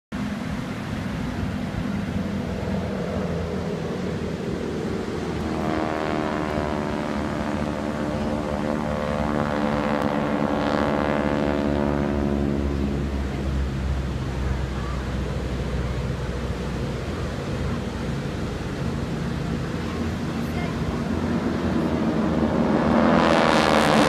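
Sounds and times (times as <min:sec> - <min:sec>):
propeller airplane flying past: 0:00.2 - 0:24.0.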